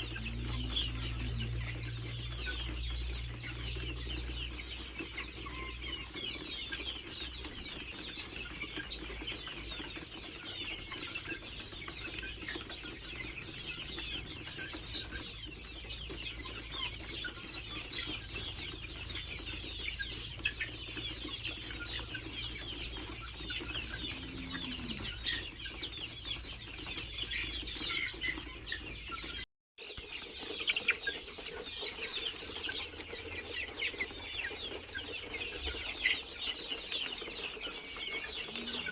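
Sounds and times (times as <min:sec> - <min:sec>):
chickens clucking and cheeping: 0:00.0 - 0:38.9.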